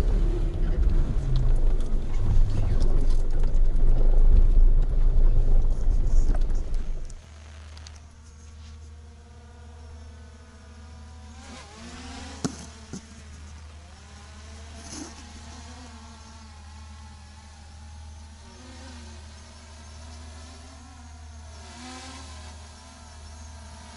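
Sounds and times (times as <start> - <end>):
low steady hum: 0.0 - 23.9
buzzing whine of small motors: 1.4 - 23.9.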